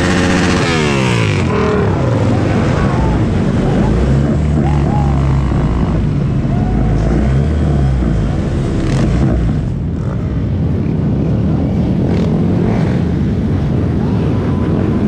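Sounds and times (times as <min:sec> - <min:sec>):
motorcycle engines at low speed: 0:00.0 - 0:15.0.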